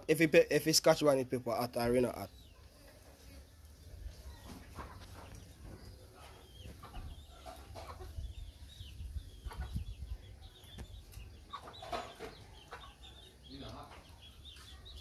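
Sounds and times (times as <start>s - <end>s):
chickens chirping: 0.0s - 15.0s.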